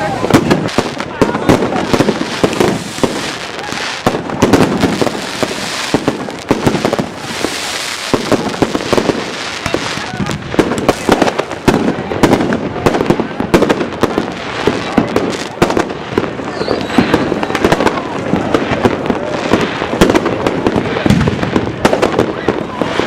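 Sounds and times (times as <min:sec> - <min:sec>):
fireworks crackling and hissing: 0:00.0 - 0:23.0
fireworks sharp bangs: 0:00.0 - 0:23.0.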